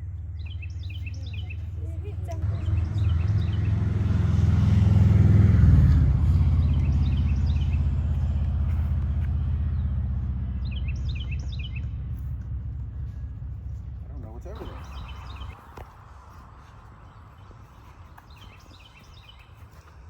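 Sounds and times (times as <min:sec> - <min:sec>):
bird chirps: 0:00.0 - 0:03.8, 0:06.6 - 0:08.9, 0:09.7 - 0:20.0
vehicle driving past: 0:02.4 - 0:19.5.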